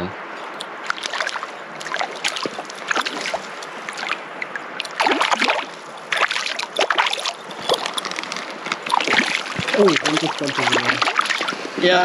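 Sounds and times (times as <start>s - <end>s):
fish splashing at water surface: 0.7s - 11.8s.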